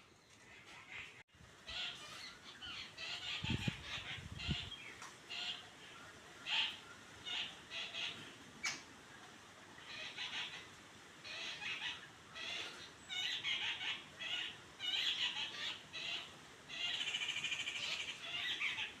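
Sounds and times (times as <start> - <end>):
birds chattering calls: 0.0 - 9.2, 9.8 - 19.0.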